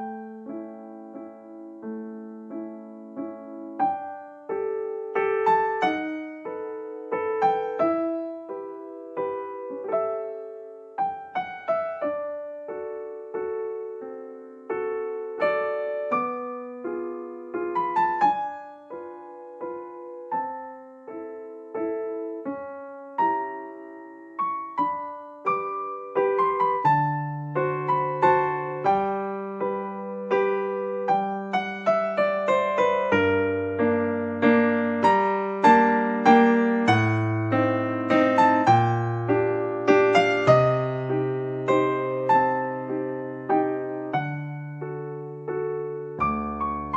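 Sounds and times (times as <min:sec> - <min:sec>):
gentle piano melody: 0:00.0 - 0:46.9
piano bass line: 0:00.0 - 0:46.9.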